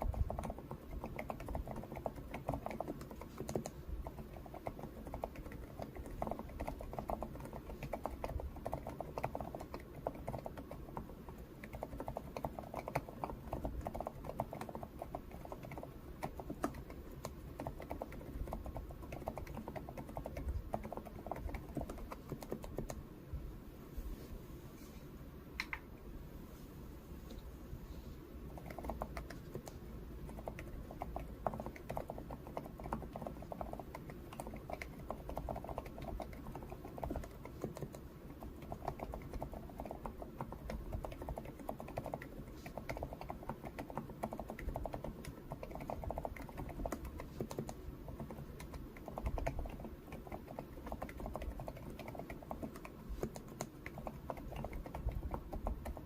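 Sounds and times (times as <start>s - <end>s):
soft muted keyboard keystrokes: 0.0s - 23.0s, 28.5s - 56.0s.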